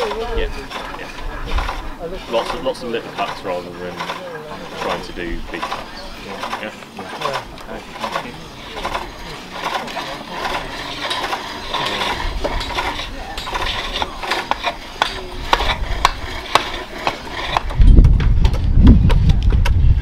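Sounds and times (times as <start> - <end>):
hook tools scraping wood: 0.0 - 18.7.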